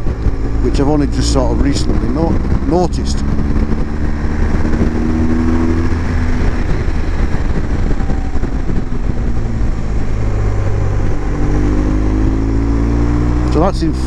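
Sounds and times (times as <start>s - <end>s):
motorcycle engine under throttle: 0.0s - 14.0s
wind and road noise: 0.0s - 14.0s.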